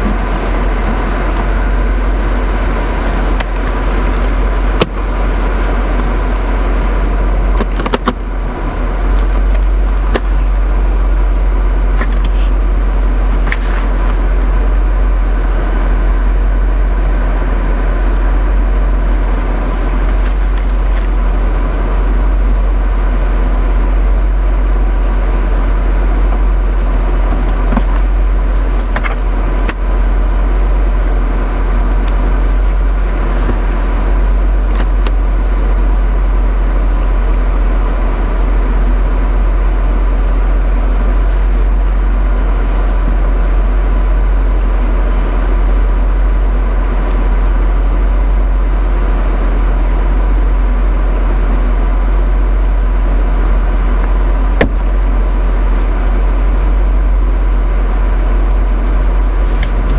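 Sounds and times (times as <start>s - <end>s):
car engine idling: 0.0s - 59.9s
thin steady hum: 0.0s - 59.9s.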